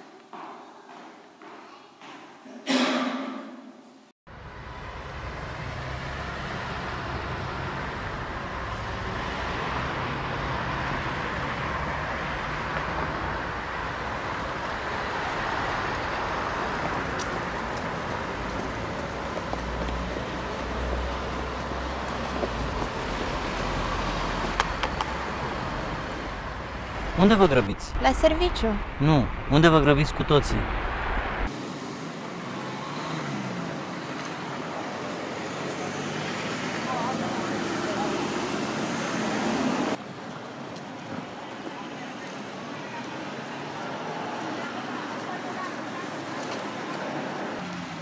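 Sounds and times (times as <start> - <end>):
low traffic rumble: 4.3 - 48.0
passing cars: 4.3 - 48.0.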